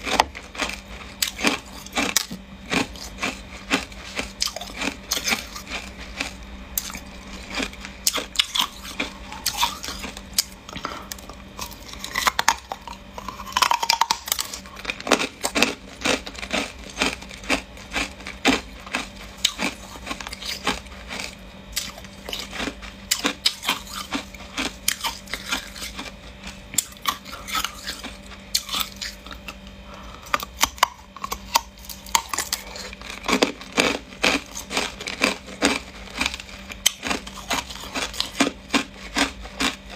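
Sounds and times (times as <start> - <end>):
faint steady hum: 0.0 - 39.9
ice being chewed: 0.0 - 39.9.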